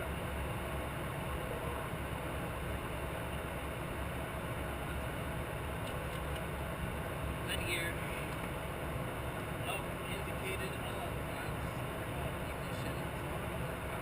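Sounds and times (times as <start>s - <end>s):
aircraft engine and airflow drone: 0.0s - 14.0s.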